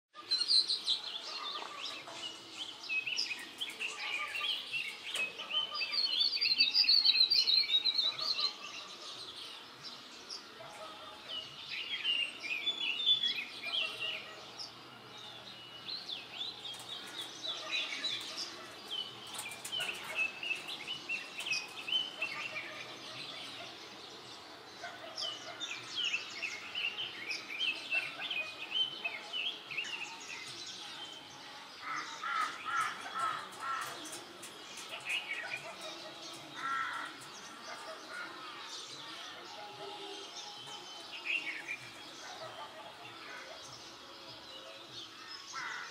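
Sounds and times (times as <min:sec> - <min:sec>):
birds chirping: 0:00.2 - 0:45.9.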